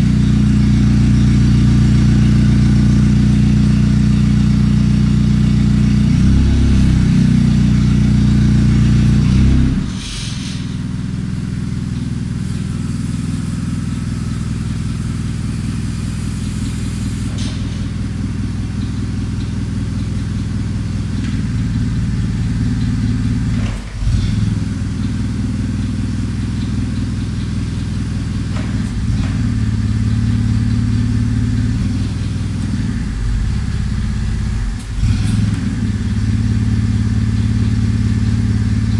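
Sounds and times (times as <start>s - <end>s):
forklift engine running: 0.0s - 38.9s.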